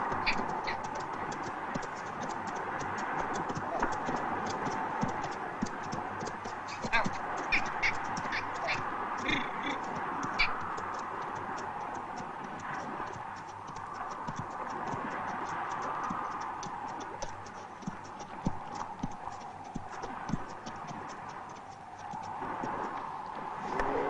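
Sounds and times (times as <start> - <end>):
horse hooves clip-clopping: 0.0 - 24.0.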